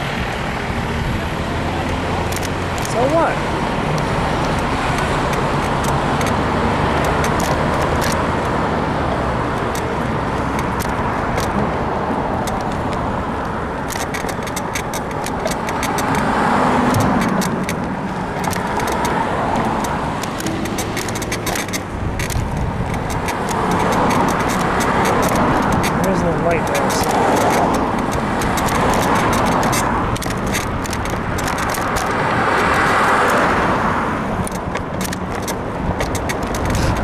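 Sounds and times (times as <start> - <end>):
bicycle clicks and creaks: 0.0 - 37.0
vehicle passing: 0.0 - 37.0
wind and road noise: 0.0 - 37.0.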